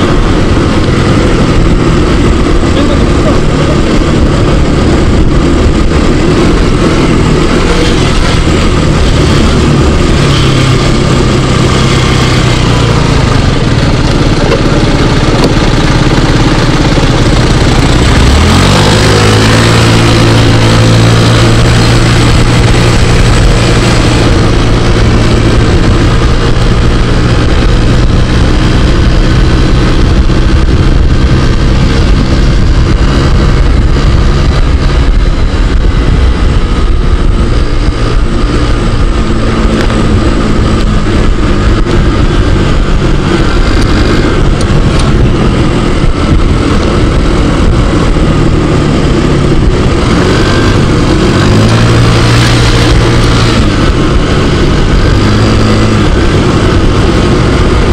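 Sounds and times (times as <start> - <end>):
scooter engine running: 0.0 - 57.9
wind and road rush: 0.0 - 57.9.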